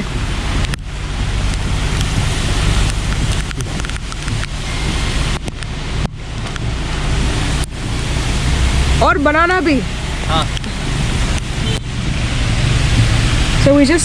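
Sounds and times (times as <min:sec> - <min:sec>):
heavy rain falling: 0:00.0 - 0:14.0
low engine hum: 0:00.0 - 0:14.0.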